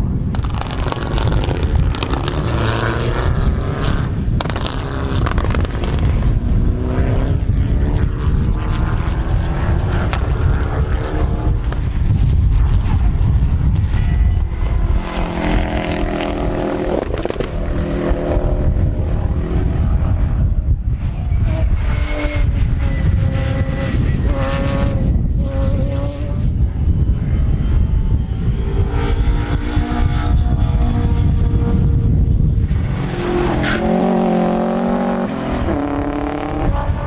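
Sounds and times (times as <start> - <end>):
race car engines: 0.0 - 37.0
wind buffeting microphone: 0.0 - 37.0.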